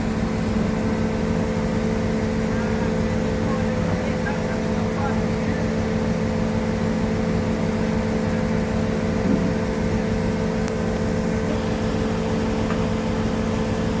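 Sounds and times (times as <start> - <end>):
crane engine droning: 0.0 - 14.0.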